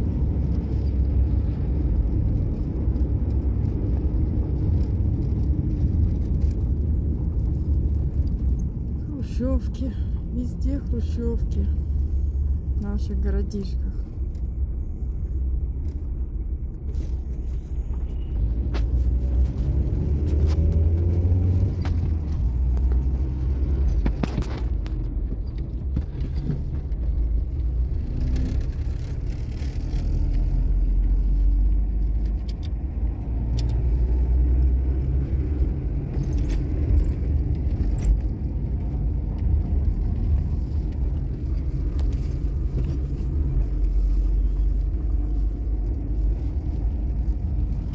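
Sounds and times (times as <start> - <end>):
car road noise rumble: 0.0 - 47.9.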